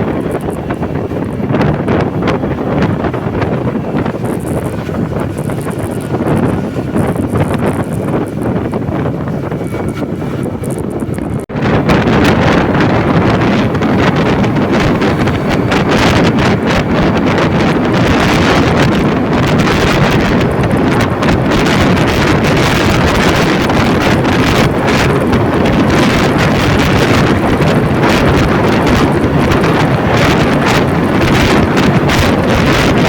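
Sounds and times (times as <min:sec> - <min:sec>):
wind rush on microphone: 0:00.0 - 0:33.0.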